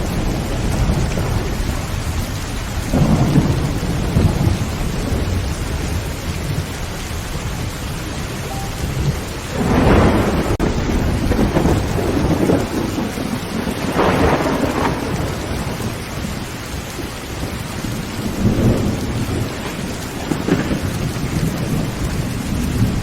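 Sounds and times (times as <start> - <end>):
thunder rolling: 0.0 - 16.5, 17.2 - 23.0
heavy rain on a tin roof: 0.0 - 23.0.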